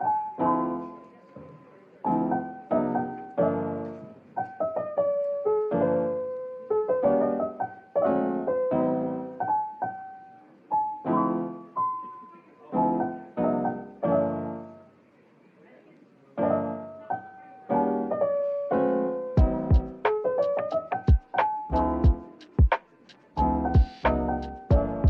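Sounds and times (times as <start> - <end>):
piano music: 0.0 - 15.0, 16.4 - 25.0.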